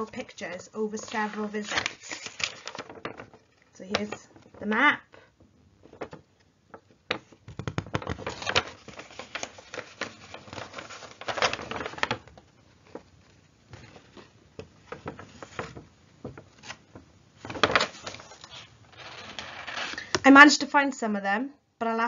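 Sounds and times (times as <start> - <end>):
paper pages rustling: 0.0 - 5.2, 5.8 - 20.2.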